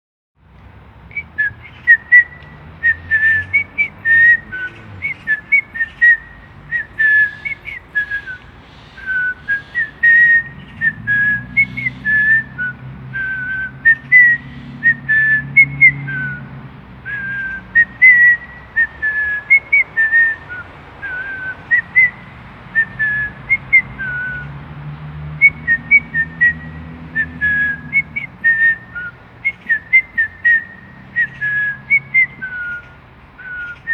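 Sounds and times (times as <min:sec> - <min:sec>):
person whistling a melody: 0:01.1 - 0:16.4, 0:17.1 - 0:24.5, 0:25.4 - 0:32.8.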